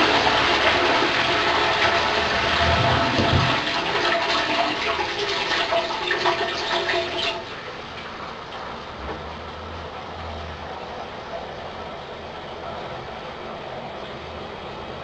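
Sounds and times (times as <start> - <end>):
toilet flushing: 0.0 - 15.0.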